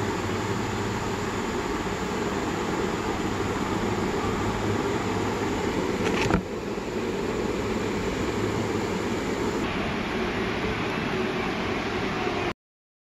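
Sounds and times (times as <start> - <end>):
steady background hiss and rumble: 0.0 - 12.5.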